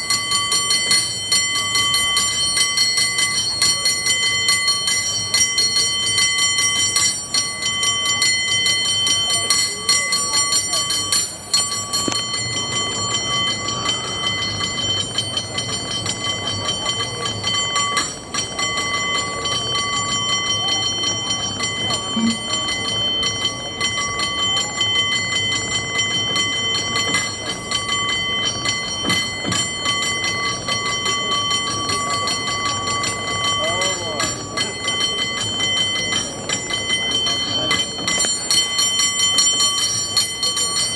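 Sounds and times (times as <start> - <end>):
cable car bell ringing rapidly: 0.0 - 40.9.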